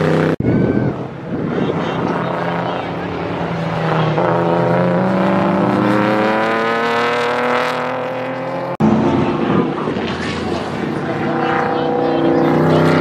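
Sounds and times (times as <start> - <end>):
lower car engine: 0.0 - 13.0
race car engine accelerating: 1.3 - 13.0.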